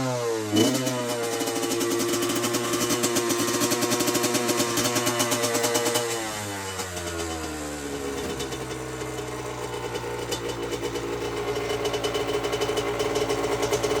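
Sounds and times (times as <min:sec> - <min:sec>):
two-stroke engine running: 0:00.0 - 0:14.0.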